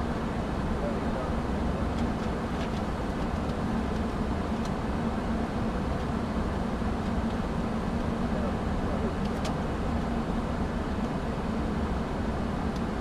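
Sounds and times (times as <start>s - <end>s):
cockpit airflow and engine noise: 0.0s - 13.0s.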